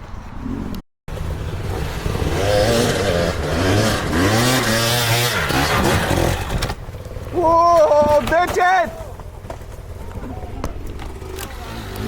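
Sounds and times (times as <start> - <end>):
dirt bike engine revving: 1.1 - 12.0.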